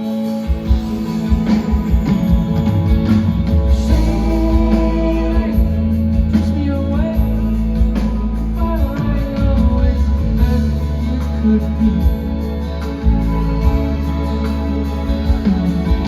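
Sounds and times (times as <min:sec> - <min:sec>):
live soft rock band: 0:00.0 - 0:16.0.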